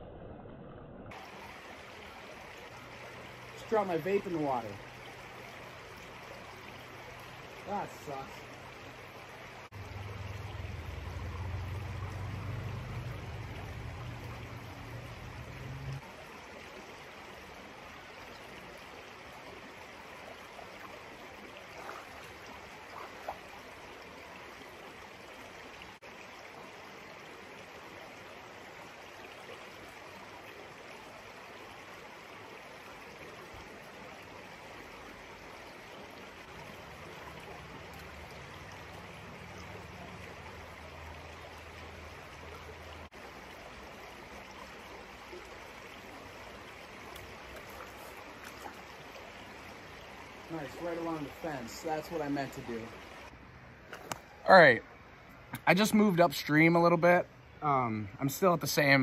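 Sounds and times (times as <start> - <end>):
creek water rushing: 1.1 - 59.0.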